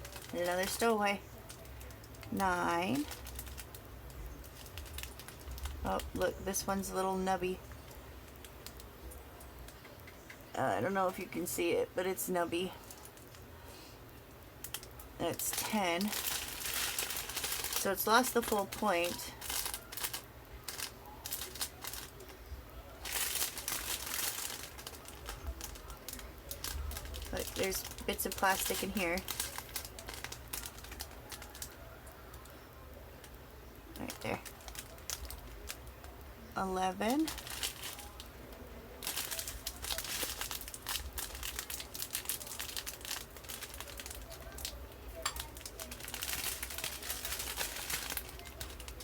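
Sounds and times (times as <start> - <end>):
plastic bags crinkling: 0.0 - 49.0.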